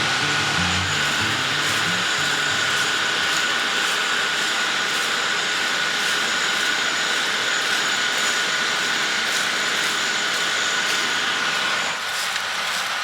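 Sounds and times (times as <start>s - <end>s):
combine harvester running: 0.0s - 13.0s
high machine whine: 0.0s - 13.0s.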